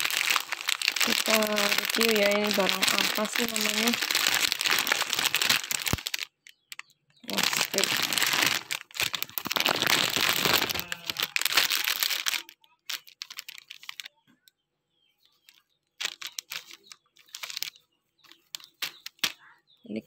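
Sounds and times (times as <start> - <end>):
plastic packaging crinkling: 0.0 - 14.2, 15.3 - 19.4.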